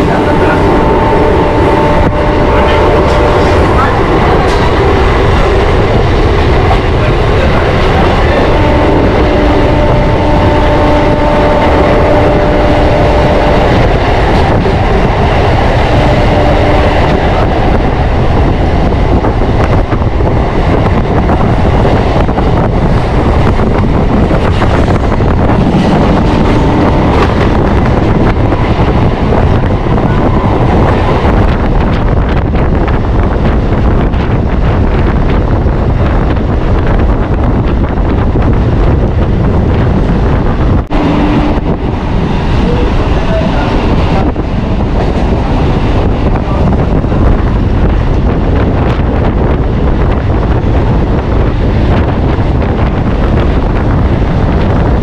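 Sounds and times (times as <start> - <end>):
train wheels rumbling and rattling: 0.0 - 55.0.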